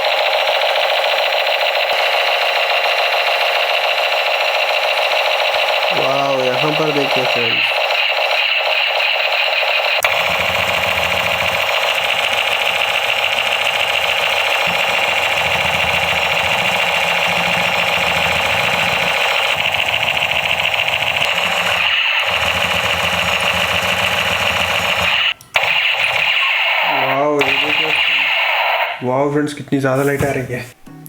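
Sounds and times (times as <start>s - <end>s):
low buzz: 0.0s - 29.0s
toy machine gun sound effect: 0.0s - 29.0s.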